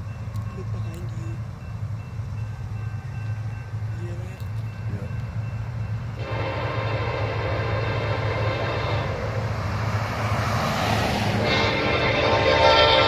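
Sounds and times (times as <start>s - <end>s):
diesel locomotive engine drone: 0.0s - 13.0s
locomotive whine: 0.0s - 13.0s.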